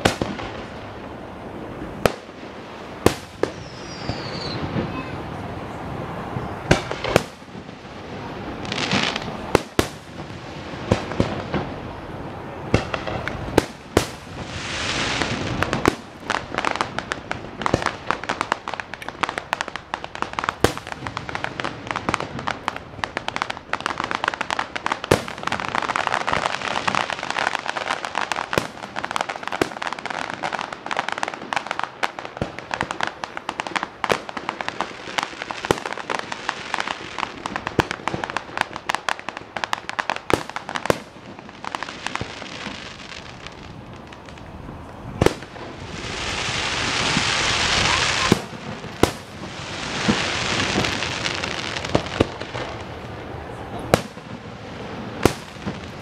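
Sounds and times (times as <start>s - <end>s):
firework shells booming: 6.4s - 11.8s, 12.7s - 44.4s, 45.2s - 52.8s, 53.8s - 56.0s.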